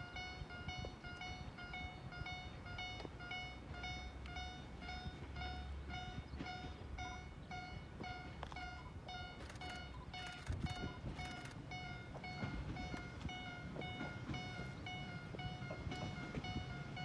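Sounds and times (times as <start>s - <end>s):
diesel railcar rumble: 0.0s - 17.0s
level-crossing alarm ringing: 0.0s - 17.0s.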